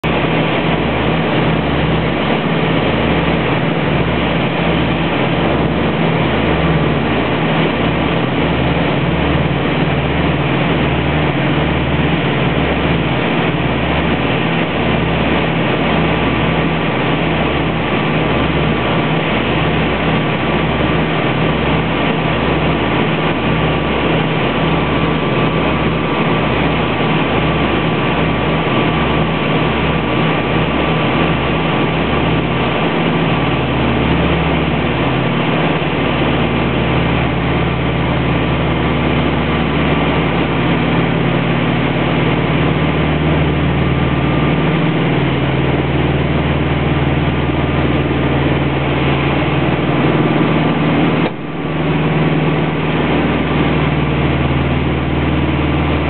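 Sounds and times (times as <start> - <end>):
aircraft cabin engine drone: 0.0 - 56.0.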